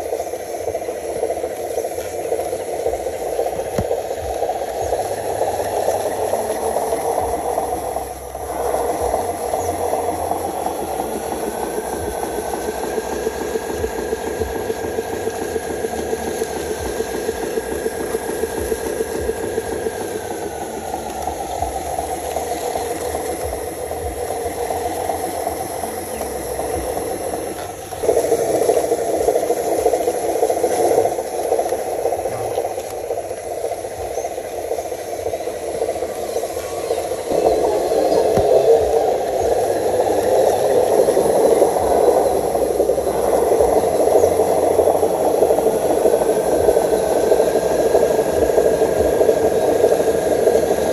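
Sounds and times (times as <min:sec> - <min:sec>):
model truck motor buzzing: 0:00.0 - 0:50.9
motor whine: 0:00.0 - 0:50.9.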